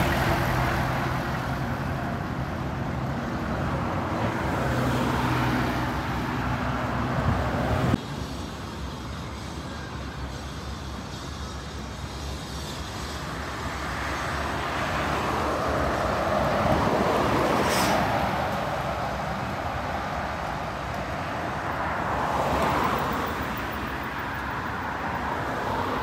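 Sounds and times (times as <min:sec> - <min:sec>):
road vehicles passing: 0:00.0 - 0:26.0.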